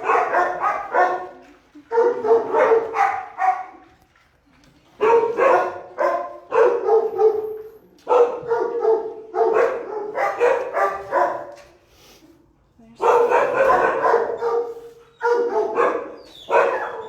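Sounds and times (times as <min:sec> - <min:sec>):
dogs barking: 0:00.0 - 0:03.9, 0:05.0 - 0:11.7, 0:13.0 - 0:17.0.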